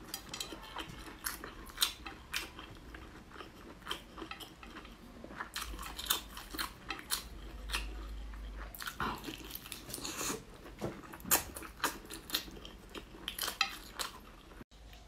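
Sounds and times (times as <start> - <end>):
chewing meat: 0.0 - 15.0.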